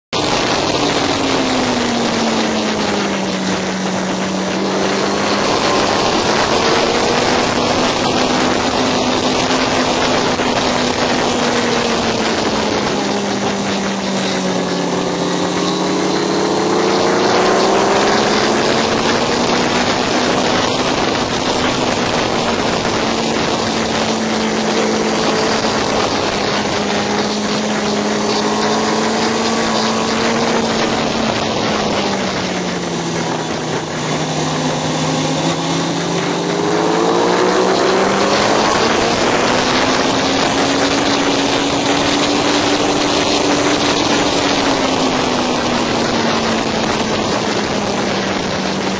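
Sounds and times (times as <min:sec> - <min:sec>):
motorcycle engine running: 0:00.0 - 0:48.9
wind rush on microphone: 0:00.1 - 0:48.9.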